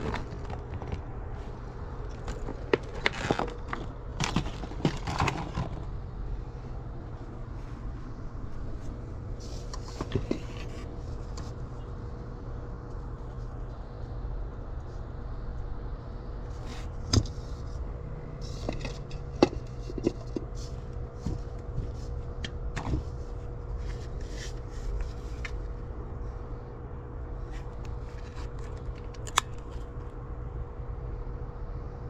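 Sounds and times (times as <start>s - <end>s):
faint steady hum: 0.0s - 32.0s
steady low rumble: 0.0s - 32.0s.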